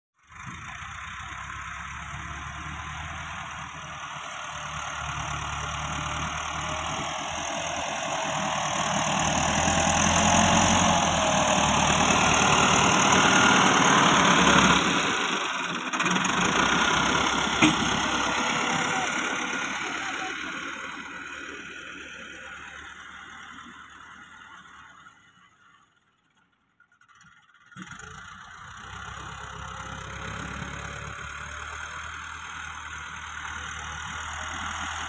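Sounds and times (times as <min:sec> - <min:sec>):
tractor diesel engine running: 0:00.2 - 0:26.4, 0:27.0 - 0:35.0.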